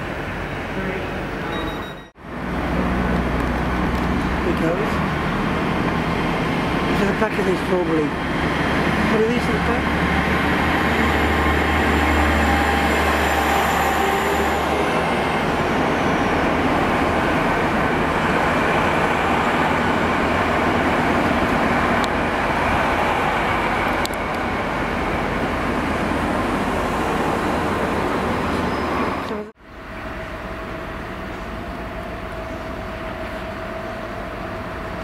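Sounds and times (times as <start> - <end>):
train wheels rumbling on rails: 0.7 - 35.0.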